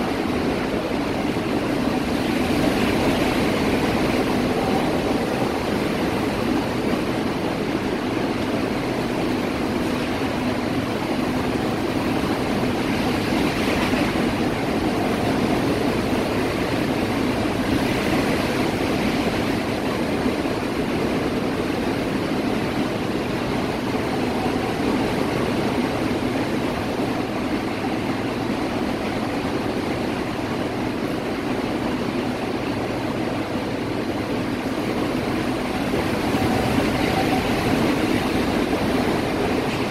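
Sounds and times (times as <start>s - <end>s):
heavy rain: 0.0s - 39.9s
hurricane wind: 0.0s - 39.9s.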